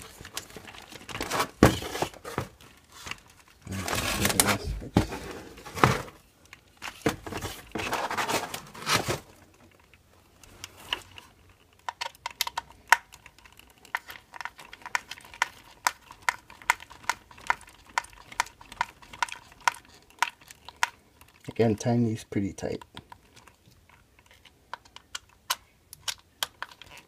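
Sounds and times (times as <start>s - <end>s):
plastic parts scraping: 0.0s - 22.0s, 22.6s - 27.0s.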